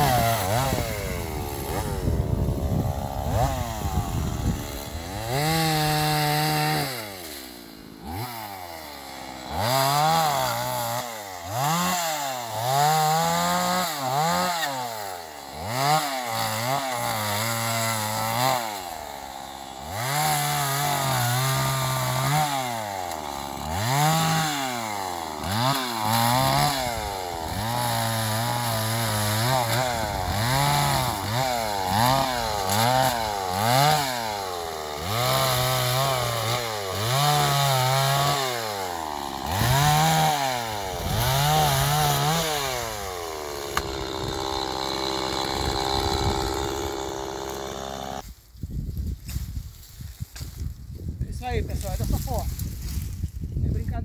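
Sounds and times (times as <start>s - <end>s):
chainsaw revving: 0.0s - 48.2s.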